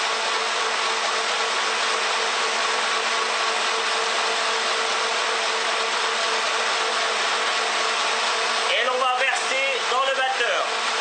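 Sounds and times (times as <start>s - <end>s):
stand mixer whirring: 0.0s - 11.0s.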